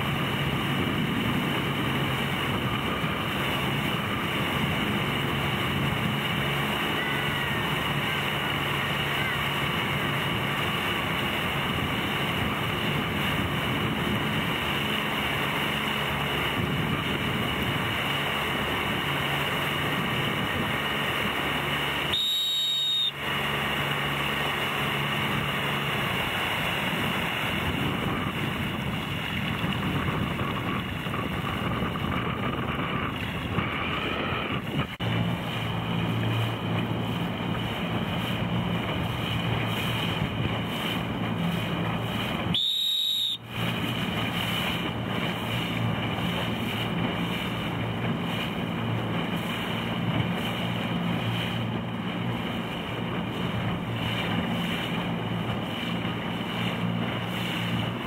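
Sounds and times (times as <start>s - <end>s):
wind buffeting microphone: 0.0s - 8.8s, 9.4s - 21.8s, 23.5s - 42.5s, 43.4s - 58.0s
motorboat engine running: 0.0s - 58.0s
water rushing past hull: 0.0s - 58.0s.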